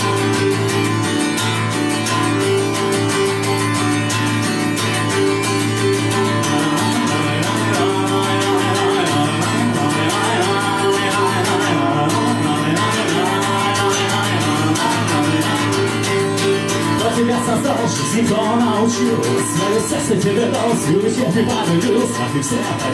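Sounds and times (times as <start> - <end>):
person singing: 0.0 - 3.9, 4.5 - 22.9
strummed acoustic guitar: 0.0 - 22.9.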